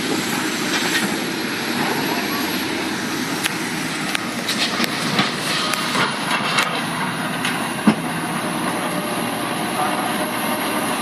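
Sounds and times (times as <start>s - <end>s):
excavator machine noise: 0.0s - 11.0s.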